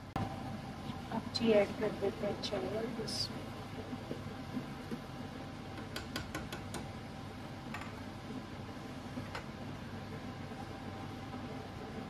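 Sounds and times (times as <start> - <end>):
boiling water bubbling: 0.0 - 12.0.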